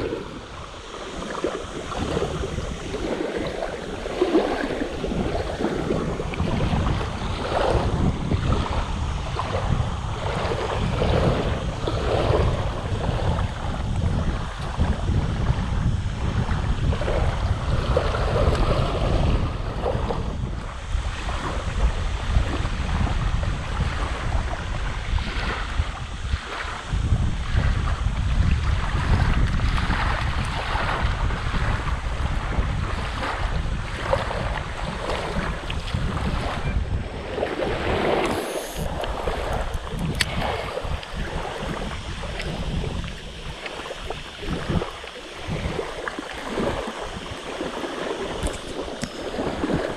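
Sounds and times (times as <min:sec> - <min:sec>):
small waves lapping on shore: 0:00.0 - 0:49.9
wind buffeting microphone: 0:00.0 - 0:49.9.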